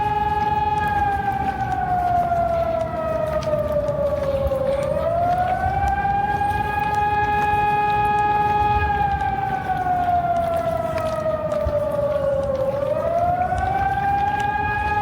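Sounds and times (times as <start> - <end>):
electronic siren wailing: 0.0 - 15.0.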